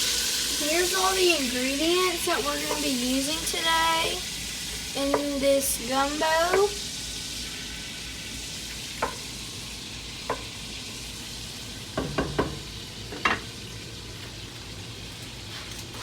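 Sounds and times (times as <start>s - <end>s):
butter sizzling in a pot: 0.0s - 16.0s.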